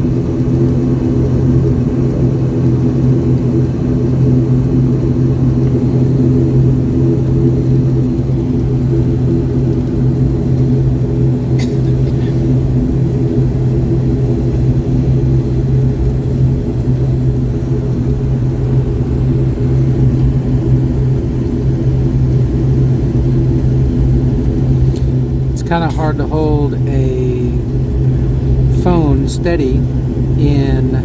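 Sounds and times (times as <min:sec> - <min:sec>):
turboprop engines droning: 0:00.0 - 0:31.0.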